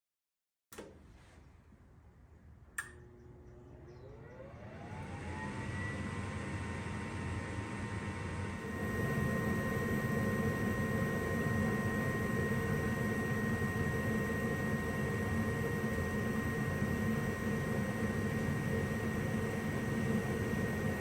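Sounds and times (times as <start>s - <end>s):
gas furnace running: 2.7s - 21.0s.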